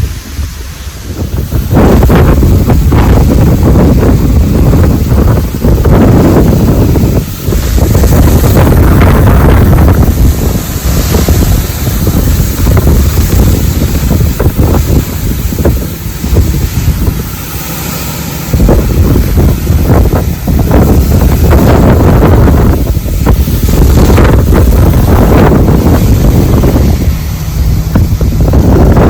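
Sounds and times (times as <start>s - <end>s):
gusty wind buffeting microphone: 0.0s - 29.0s.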